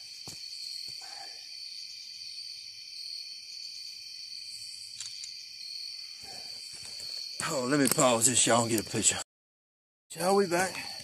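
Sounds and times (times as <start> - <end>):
insects trilling: 0.0 - 9.2, 10.1 - 11.0.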